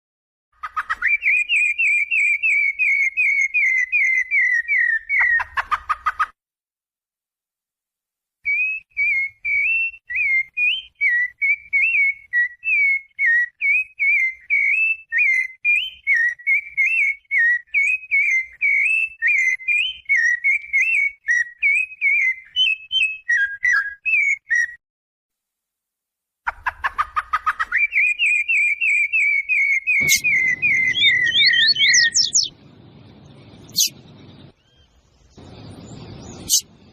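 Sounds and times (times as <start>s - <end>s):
songbird singing whistled notes: 0.8s - 5.6s, 8.4s - 24.8s, 27.4s - 36.9s.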